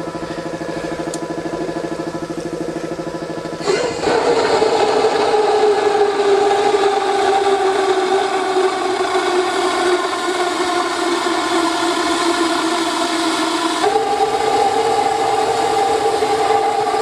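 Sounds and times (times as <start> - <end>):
oil burner droning: 0.0 - 17.0.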